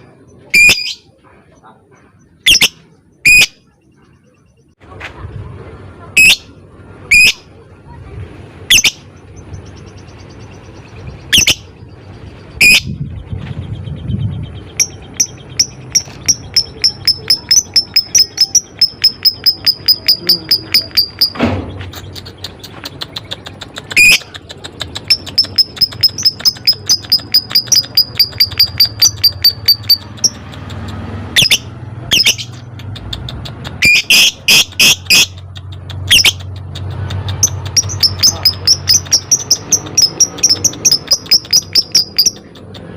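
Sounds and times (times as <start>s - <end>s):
lovebird rapid chattering: 2.3s - 4.5s, 8.7s - 42.9s.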